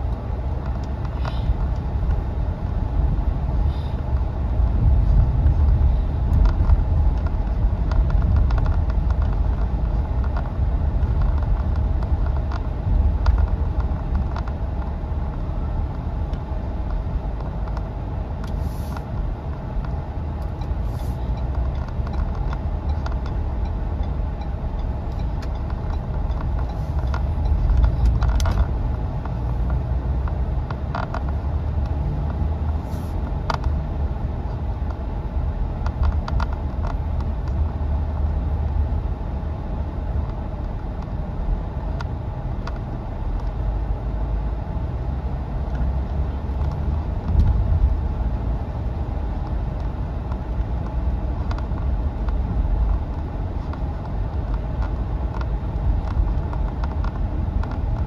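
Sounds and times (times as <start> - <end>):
car rumbling on the move: 0.0 - 58.0.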